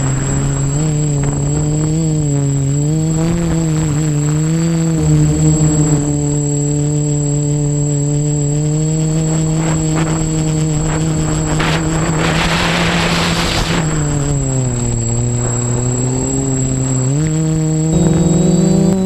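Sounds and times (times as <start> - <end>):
drone propellers buzzing: 0.0 - 19.0
faint high whine: 0.0 - 19.0.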